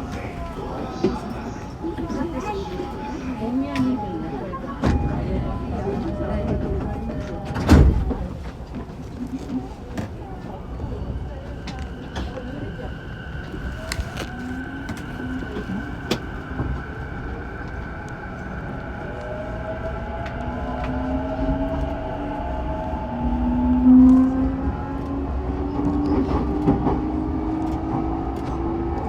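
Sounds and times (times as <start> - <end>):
wheels rumbling on rail: 0.0 - 29.0.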